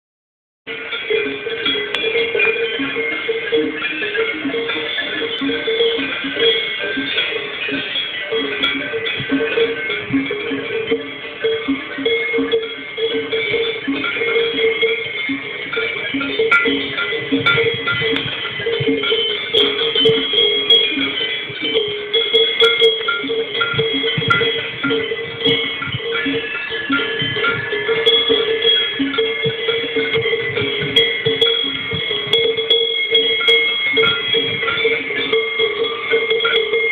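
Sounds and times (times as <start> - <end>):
cowbells clanking: 0.7 - 36.9.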